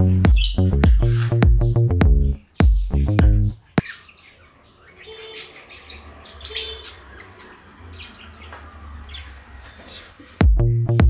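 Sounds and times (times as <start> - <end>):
parrots chirping: 0.3 - 10.4.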